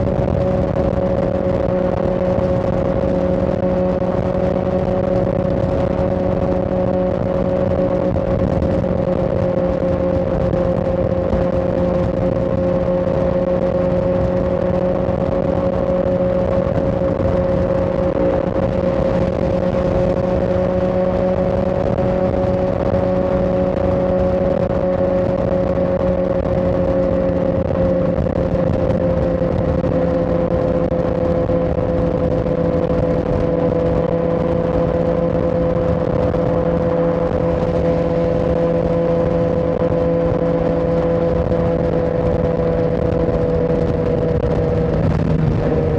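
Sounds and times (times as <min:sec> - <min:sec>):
constant rush of noise: 0:00.0 - 0:45.9
motorcycle engine cruising: 0:00.0 - 0:45.9.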